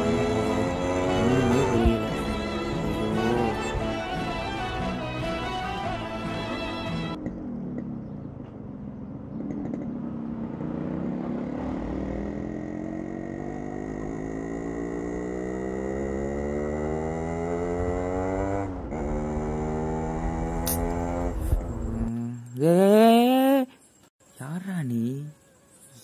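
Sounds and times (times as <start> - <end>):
motorcycle engine accelerating: 0.0 - 23.5.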